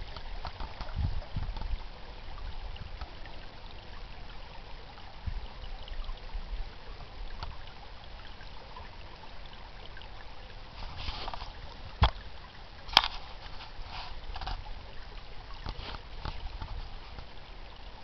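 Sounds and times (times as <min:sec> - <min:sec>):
brook babbling: 0:00.0 - 0:18.0.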